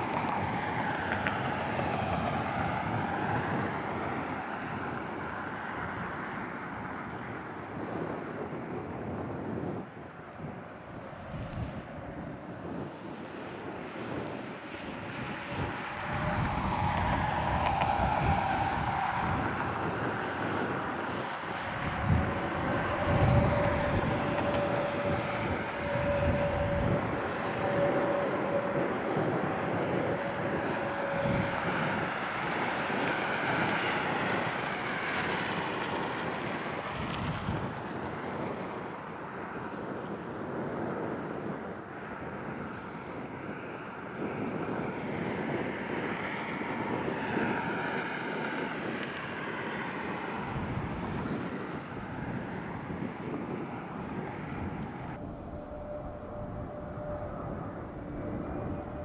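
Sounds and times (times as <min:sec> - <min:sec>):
jet engines passing overhead: 0:00.0 - 0:59.0.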